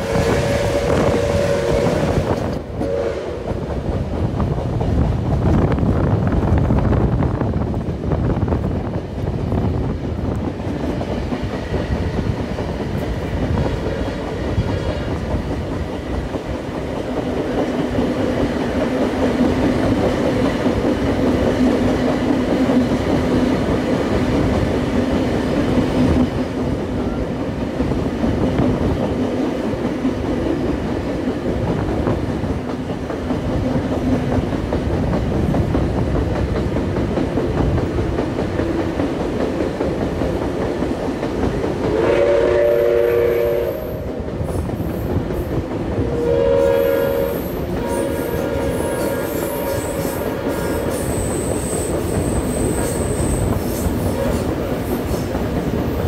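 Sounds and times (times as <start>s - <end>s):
train wheels clicking over joints: 0.0s - 46.2s, 47.1s - 56.0s
train rumble: 0.0s - 56.0s.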